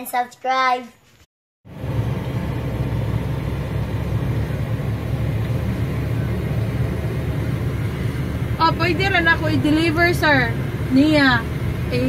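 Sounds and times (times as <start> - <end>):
vehicle and road rumble: 1.7 - 12.0.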